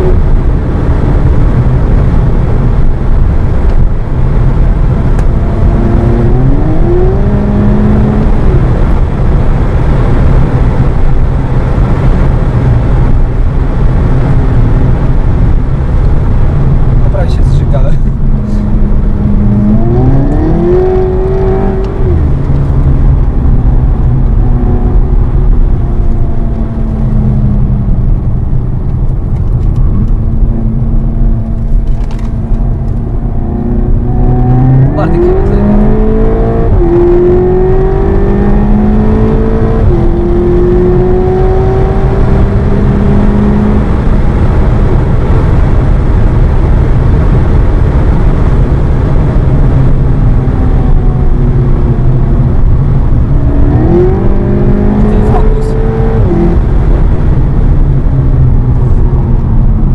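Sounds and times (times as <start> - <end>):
car engine accelerating: 0.0 - 59.9
loud steady rumble: 0.0 - 59.9.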